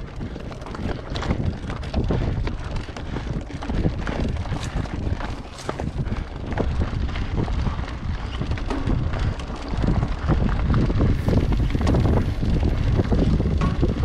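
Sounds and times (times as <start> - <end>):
bike rattling: 0.0 - 14.0
wind rush on microphone: 0.0 - 14.0
tyres crunching over stones: 0.2 - 14.0.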